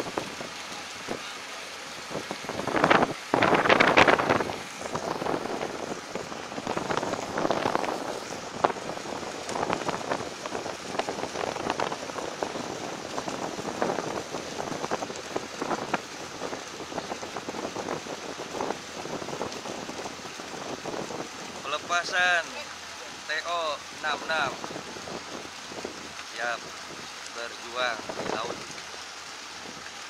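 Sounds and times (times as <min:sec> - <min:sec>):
boat hull splashing through water: 0:00.0 - 0:30.0.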